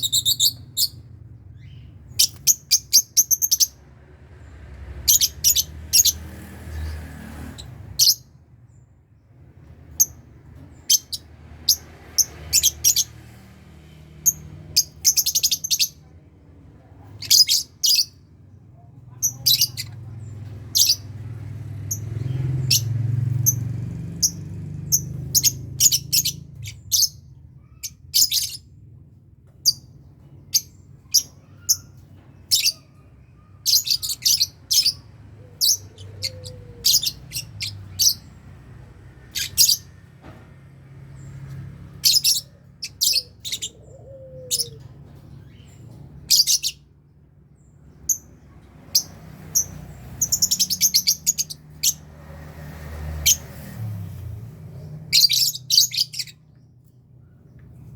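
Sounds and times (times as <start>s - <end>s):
lovebirds chirping: 0.0s - 3.8s, 4.4s - 8.8s, 9.8s - 13.4s, 14.2s - 16.1s, 16.7s - 28.7s, 29.5s - 40.0s, 41.1s - 47.0s, 47.6s - 52.3s, 53.2s - 57.9s.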